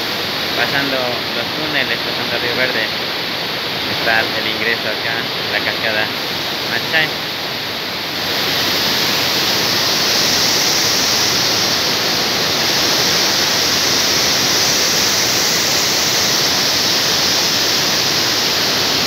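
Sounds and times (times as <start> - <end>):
waterfall and rapids roaring: 0.0 - 19.0.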